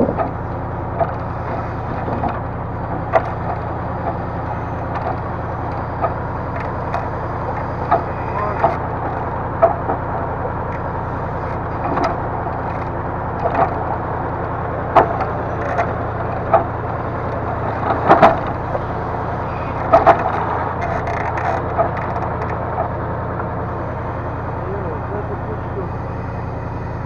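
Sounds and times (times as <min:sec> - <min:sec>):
diesel engine running: 0:00.0 - 0:27.0
logs knocking together: 0:00.0 - 0:27.0.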